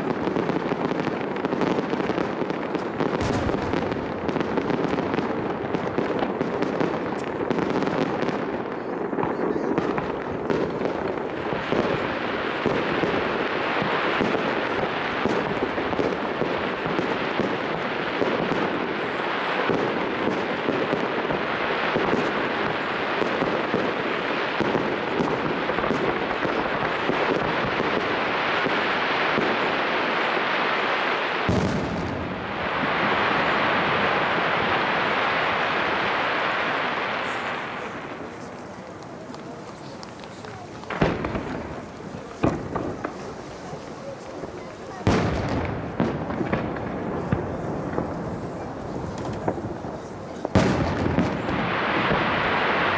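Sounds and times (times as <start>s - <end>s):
fireworks crackling and bangs: 0.0s - 52.9s.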